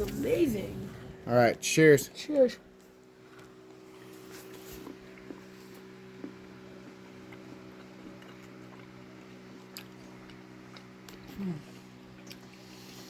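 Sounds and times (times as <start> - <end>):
fan or motor humming: 0.0 - 13.0.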